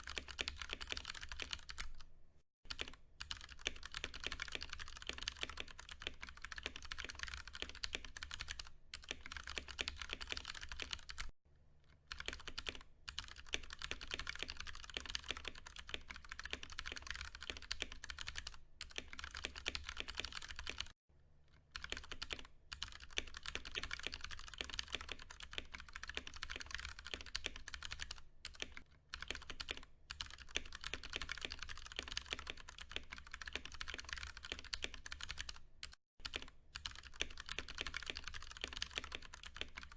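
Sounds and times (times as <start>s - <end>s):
fast typing on mechanical keyboard: 0.0s - 2.1s, 2.7s - 11.3s, 12.1s - 21.0s, 21.7s - 39.9s.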